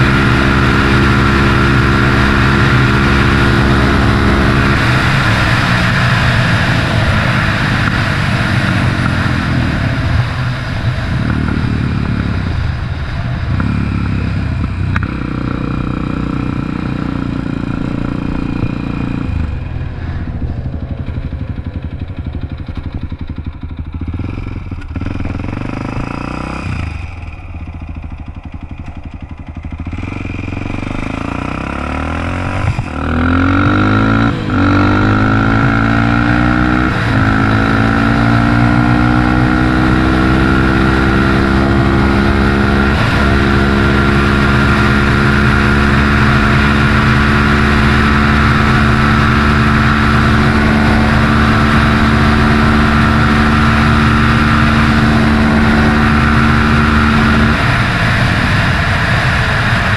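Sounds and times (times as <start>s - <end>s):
wind rushing over microphone: 0.0s - 27.9s, 28.5s - 59.9s
quad engine accelerating: 0.0s - 59.9s.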